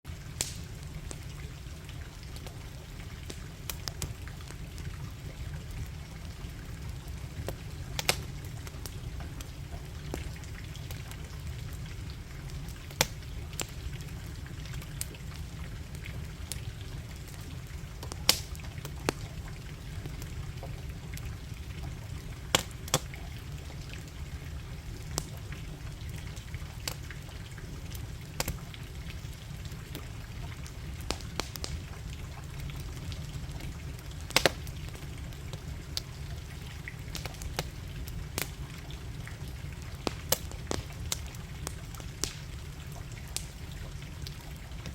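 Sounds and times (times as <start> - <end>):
bonfire crackling and popping: 0.1 - 44.9.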